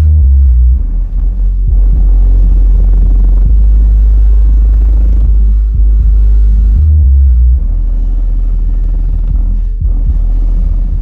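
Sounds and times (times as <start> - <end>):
loud deep bass from subwoofers: 0.0 - 11.0.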